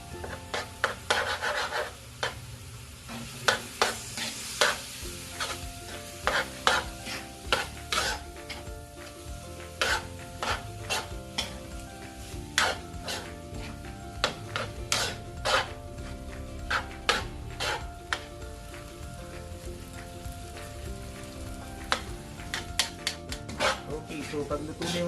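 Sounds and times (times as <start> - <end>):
utensil scraping frying pan: 0.0 - 19.5, 20.6 - 25.0
meat sizzling: 0.0 - 25.0.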